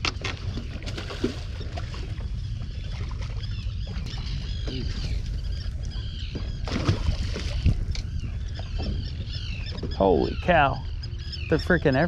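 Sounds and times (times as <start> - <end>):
birds chirping: 0.0 - 12.0
boat engine rumble: 0.0 - 12.0.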